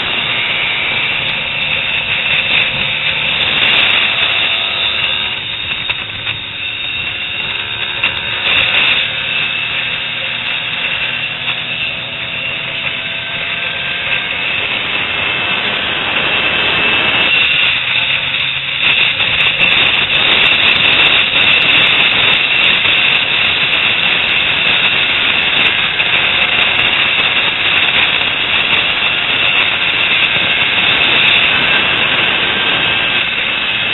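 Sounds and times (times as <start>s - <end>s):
motorcycle engine running: 0.0s - 33.9s
wind noise on microphone: 0.0s - 33.9s.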